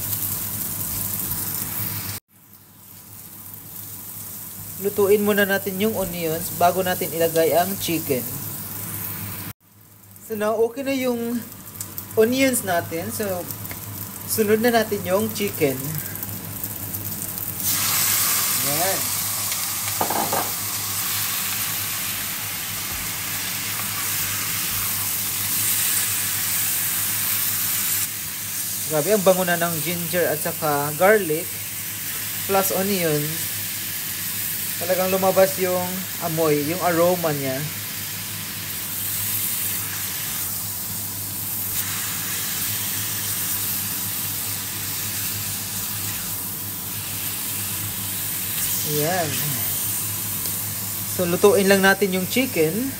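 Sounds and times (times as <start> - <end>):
chicken sizzling in hot oil: 0.0 - 52.9.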